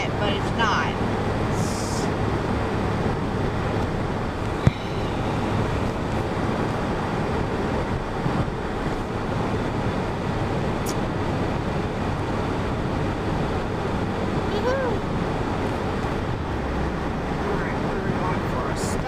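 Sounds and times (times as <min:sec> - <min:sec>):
truck road and engine noise: 0:00.0 - 0:19.0.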